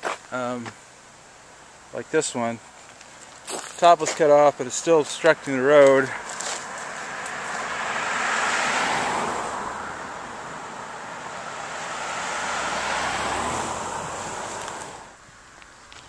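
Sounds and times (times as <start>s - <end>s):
vehicles passing on paved road: 0.0s - 16.0s.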